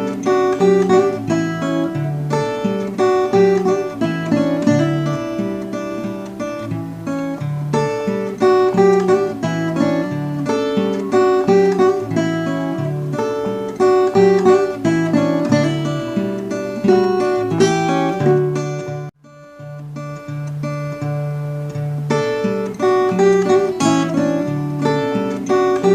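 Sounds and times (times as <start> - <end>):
plucked acoustic guitar: 0.0 - 25.9.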